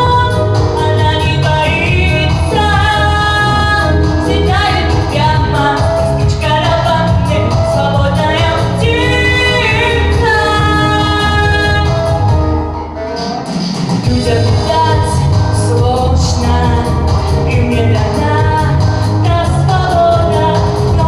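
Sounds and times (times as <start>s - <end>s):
woman singing: 0.0s - 12.4s, 14.0s - 21.0s
instrumental accompaniment: 0.0s - 21.0s.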